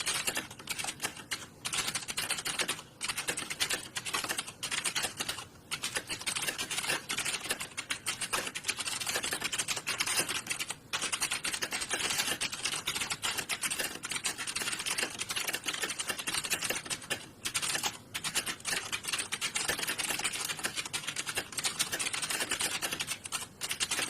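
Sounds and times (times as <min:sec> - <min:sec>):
fast dense keyboard typing: 0:00.0 - 0:24.0.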